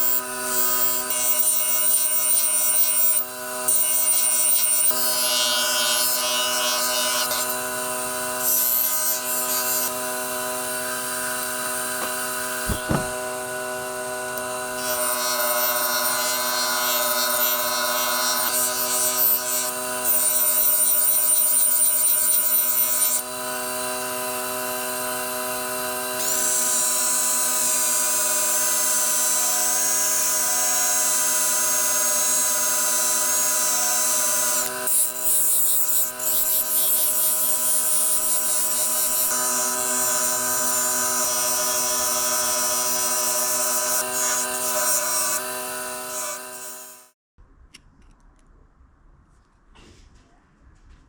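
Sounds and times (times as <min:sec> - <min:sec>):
power tool grinding metal: 0:00.0 - 0:47.2.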